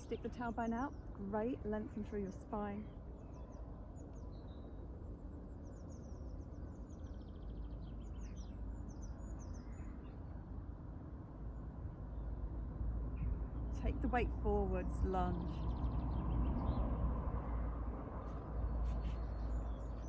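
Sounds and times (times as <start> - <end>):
low background rumble: 0.0 - 20.0
songbirds chirping: 0.0 - 20.0.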